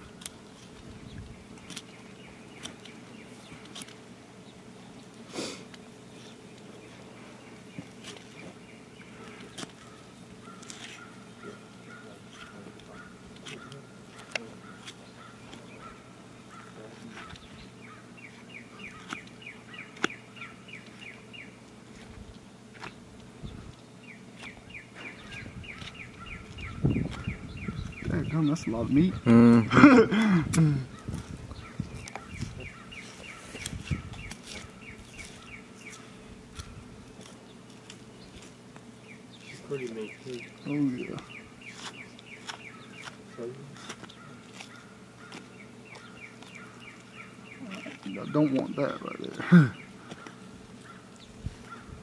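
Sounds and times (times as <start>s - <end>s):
songbird chirping: 6.0s - 21.6s, 22.8s - 29.3s, 30.8s - 51.9s.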